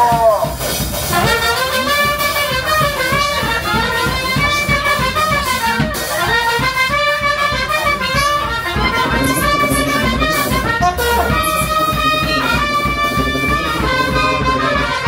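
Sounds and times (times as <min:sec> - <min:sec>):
brass band playing: 0:00.5 - 0:15.0.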